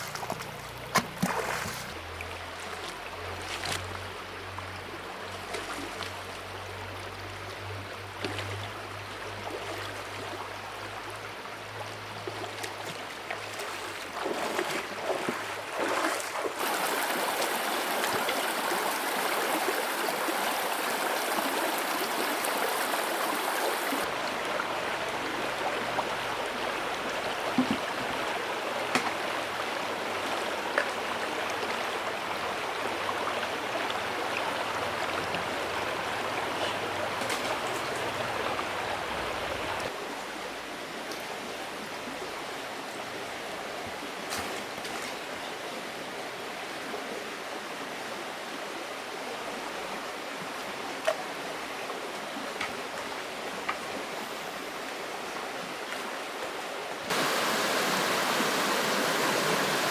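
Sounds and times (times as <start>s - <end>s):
river water flowing: 0.0s - 44.3s, 45.2s - 59.9s.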